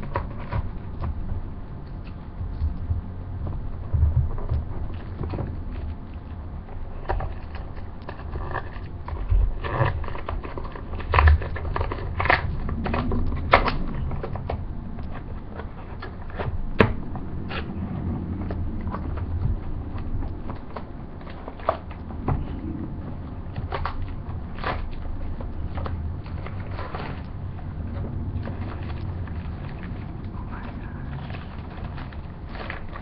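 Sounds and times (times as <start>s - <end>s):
cardboard crackling: 0.0s - 33.0s.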